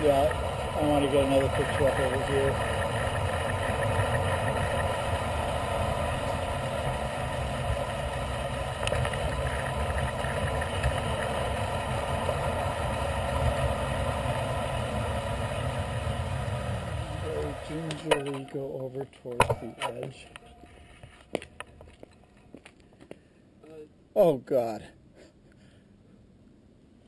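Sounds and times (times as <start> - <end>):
bicycle tyre and road noise: 0.0 - 23.2.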